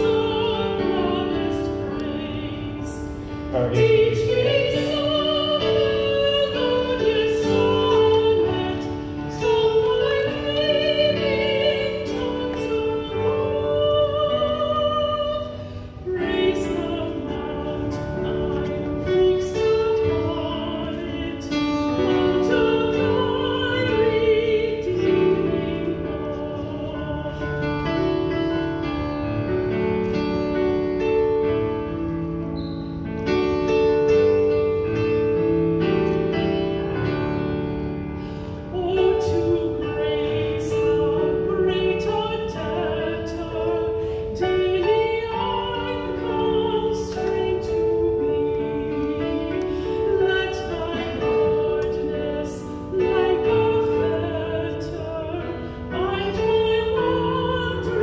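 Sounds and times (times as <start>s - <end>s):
woman singing with vibrato: 0.0s - 28.9s, 38.6s - 58.0s
digital piano: 0.0s - 58.0s.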